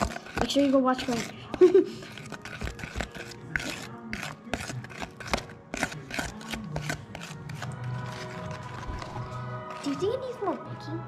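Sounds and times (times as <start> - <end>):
spoon scraping plastic bowl: 0.0 - 10.6.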